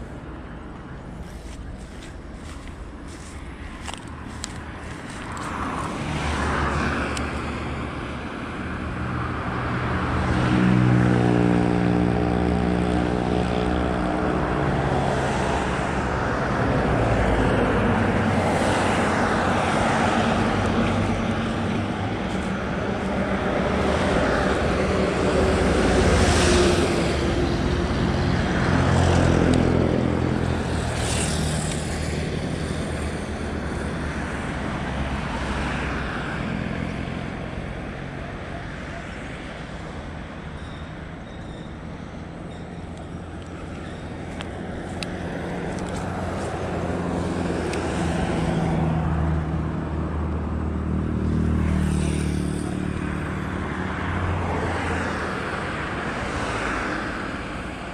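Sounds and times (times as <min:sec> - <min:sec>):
cars passing: 0:00.0 - 0:57.9
large vehicle engine droning: 0:00.0 - 0:57.9.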